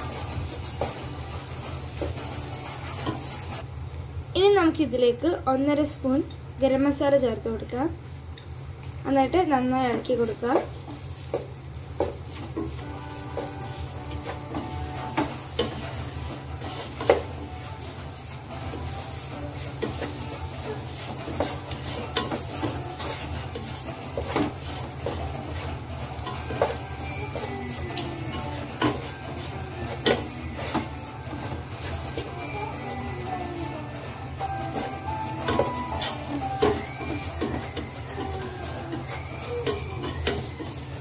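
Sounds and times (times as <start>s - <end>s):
wooden spoon scraping a pan: 0.0s - 3.6s, 10.2s - 41.0s
masala sizzling in a pot: 0.0s - 41.0s.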